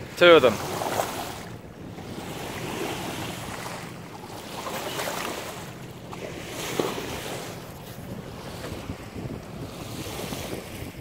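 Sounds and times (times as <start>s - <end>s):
water splashing along boat bow: 0.0s - 11.0s
wind buffeting microphone: 0.0s - 11.0s.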